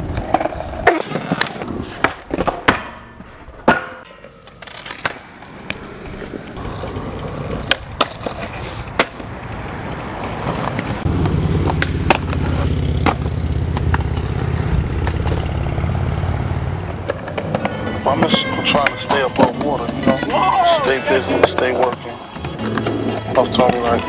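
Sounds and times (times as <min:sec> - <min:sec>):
skateboard wheels rolling on pavement: 0:00.0 - 0:02.5, 0:04.1 - 0:24.0
skateboard clacking on ground: 0:00.0 - 0:15.6, 0:16.9 - 0:24.0.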